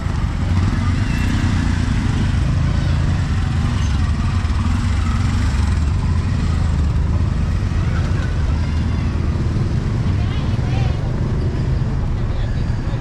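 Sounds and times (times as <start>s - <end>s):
street traffic engines rumbling: 0.0s - 13.0s.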